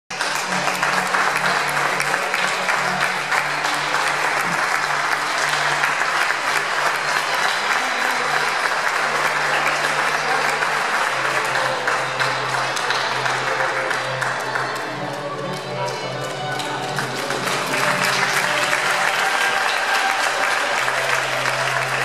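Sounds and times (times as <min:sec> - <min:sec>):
crowd applauding: 0:00.1 - 0:22.0
faint music: 0:00.1 - 0:22.0.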